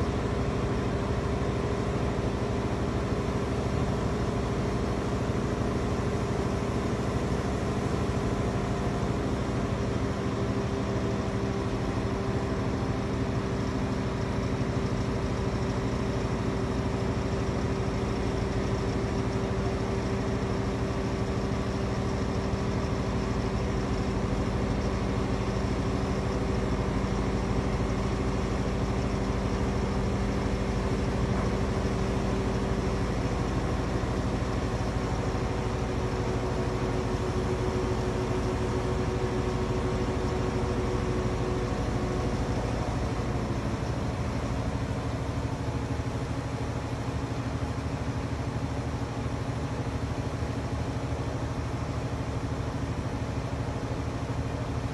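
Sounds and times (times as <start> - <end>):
heavy crane diesel engines rumbling: 0.0 - 54.9.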